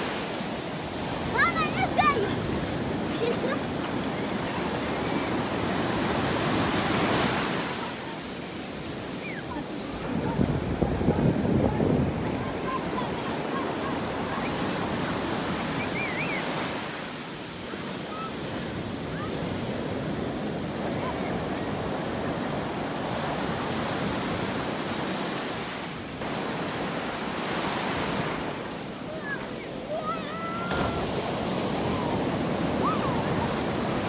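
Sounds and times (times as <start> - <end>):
sea waves breaking on shore: 0.0 - 34.0.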